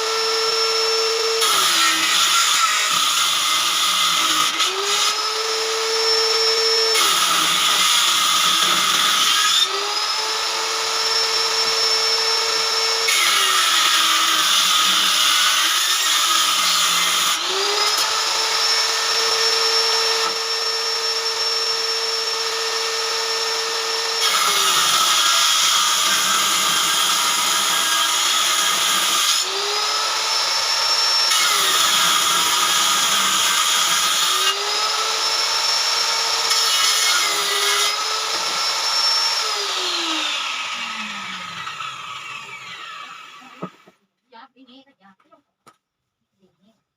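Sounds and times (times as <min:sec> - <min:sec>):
power saw cutting wood: 0:00.0 - 0:44.0.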